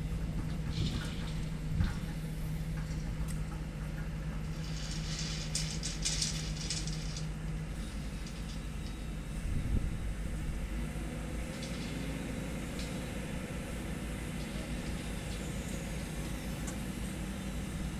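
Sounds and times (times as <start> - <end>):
excavator diesel engine humming: 0.0 - 17.9.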